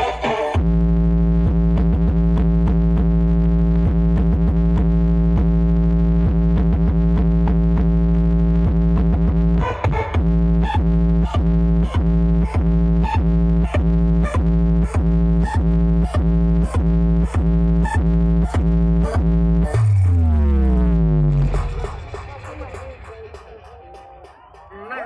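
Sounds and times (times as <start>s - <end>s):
heavy deep bass beat: 0.0s - 25.0s
loud electronic music: 0.0s - 25.0s.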